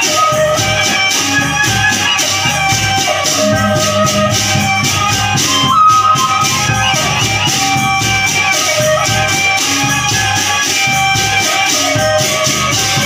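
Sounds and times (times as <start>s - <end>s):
bamboo flute melody: 0.0s - 13.0s
steady drumming: 0.0s - 13.0s.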